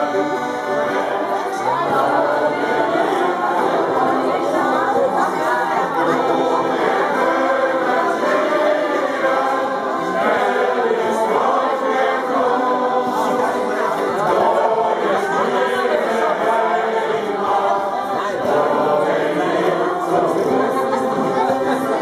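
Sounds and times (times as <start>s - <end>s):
choir singing a shanty: 0.0s - 22.0s.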